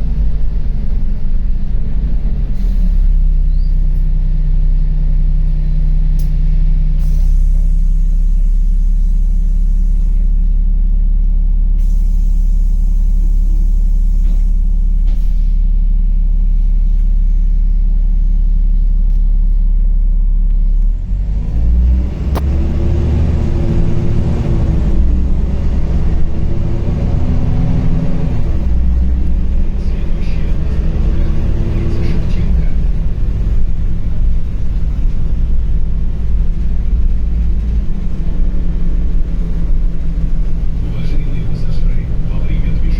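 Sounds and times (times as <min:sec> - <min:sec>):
bus engine idling and accelerating: 0:00.0 - 0:42.9.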